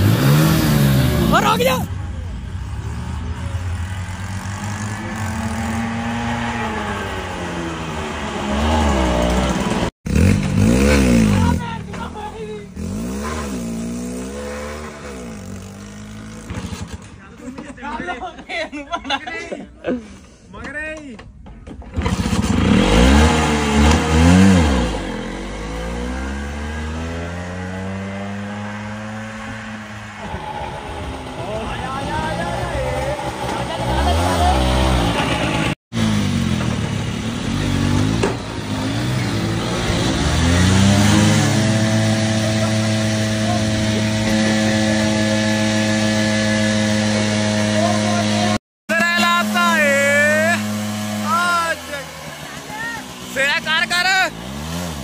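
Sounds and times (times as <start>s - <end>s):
scooter engine revving: 0.0s - 17.2s, 21.8s - 55.0s.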